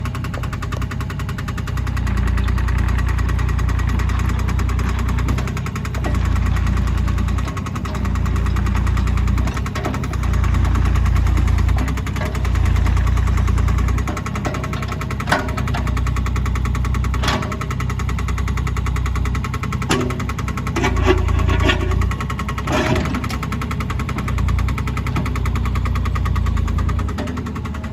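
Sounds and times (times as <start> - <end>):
diesel engine rumbling: 0.0 - 27.9.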